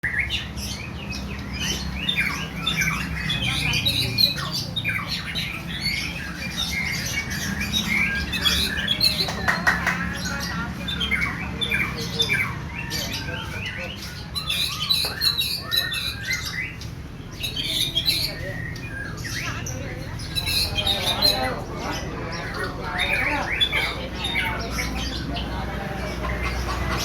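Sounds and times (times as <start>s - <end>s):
bird singing harsh squawking phrases: 0.0s - 27.0s.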